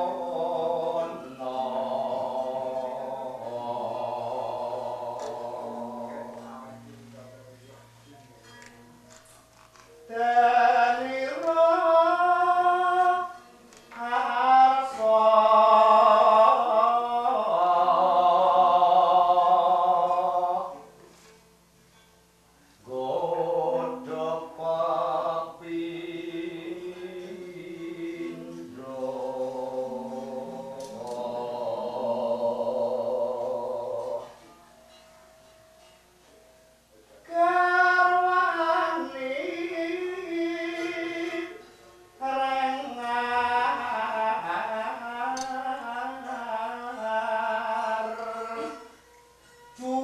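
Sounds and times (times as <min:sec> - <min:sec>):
solo singing voice: 0:00.0 - 0:07.2, 0:09.9 - 0:21.0, 0:22.8 - 0:34.4, 0:37.2 - 0:50.0.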